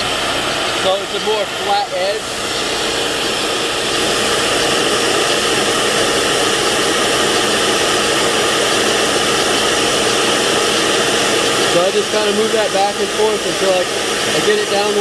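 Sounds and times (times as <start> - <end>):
shop vacuum running: 0.0 - 15.0
small lathe running: 0.0 - 15.0.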